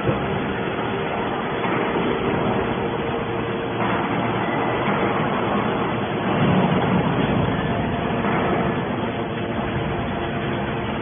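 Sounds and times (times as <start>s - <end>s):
hydraulic baler drone: 0.0s - 11.0s.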